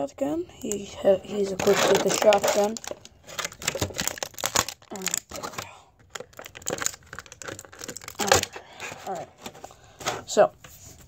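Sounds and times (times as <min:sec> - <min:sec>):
plastic packaging crinkling: 0:00.6 - 0:10.1.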